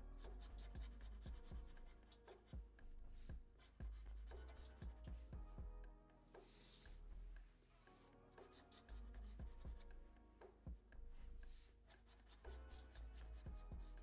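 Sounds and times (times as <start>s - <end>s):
marker pen scratching on paper: 0.2s - 5.3s, 6.3s - 14.0s.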